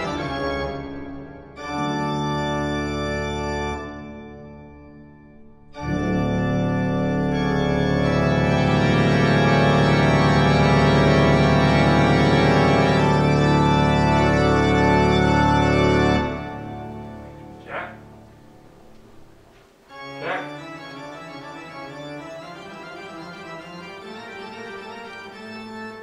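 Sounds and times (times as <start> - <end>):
organ playing held chords: 0.0 - 26.0.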